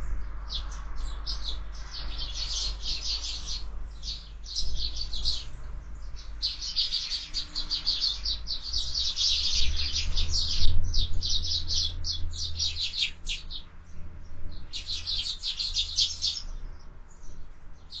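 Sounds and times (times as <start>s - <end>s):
low wind rumble: 0.0s - 18.0s
sparrows chirping: 0.0s - 18.0s.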